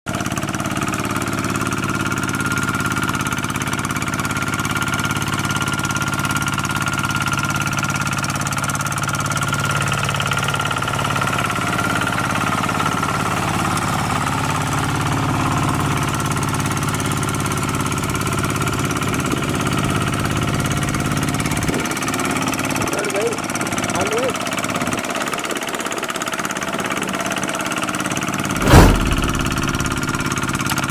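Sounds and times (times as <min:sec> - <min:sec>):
diesel tractor engine knocking: 0:00.1 - 0:28.0.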